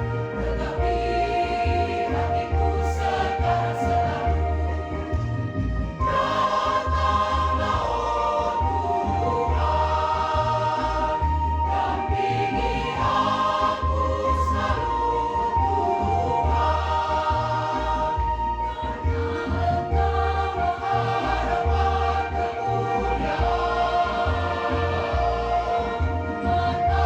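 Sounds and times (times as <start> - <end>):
choir singing: 0.0 - 27.0
low accompaniment: 0.0 - 27.0.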